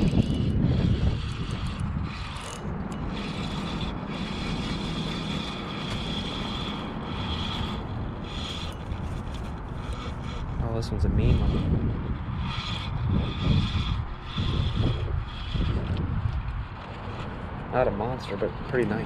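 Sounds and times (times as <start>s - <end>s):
fishing reel whirring: 0.0s - 17.5s
wind noise on microphone: 0.0s - 19.0s.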